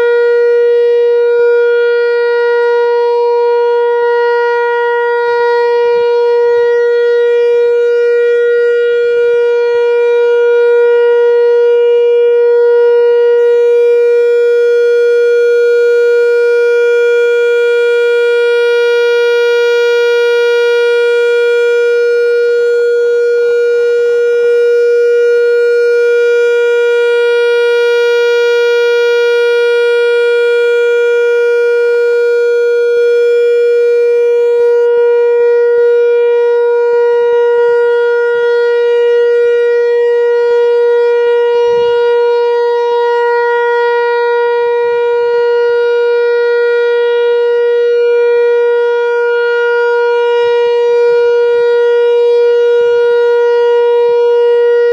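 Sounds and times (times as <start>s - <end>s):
steady warning siren tone: 0.0s - 54.9s.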